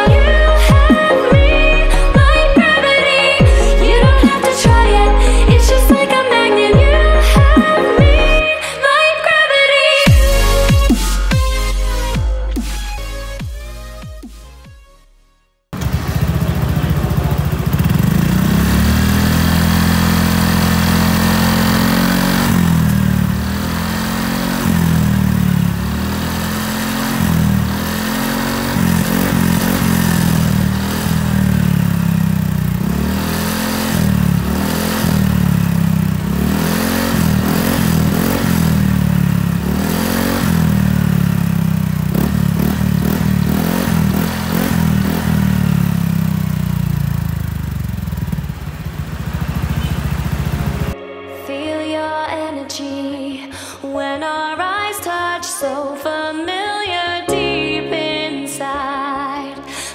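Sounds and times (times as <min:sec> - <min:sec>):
scooter engine revving: 0:00.0 - 0:08.5, 0:10.0 - 0:14.4, 0:15.7 - 0:51.0.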